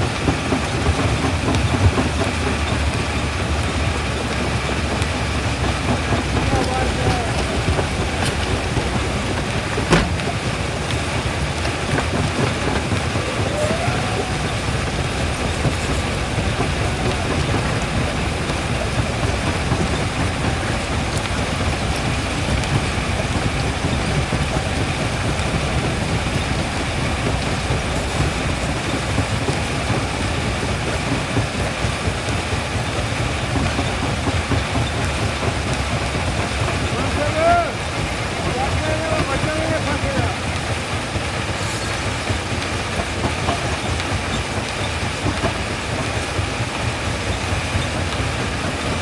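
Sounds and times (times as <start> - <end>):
low machine rumble: 0.0 - 49.0.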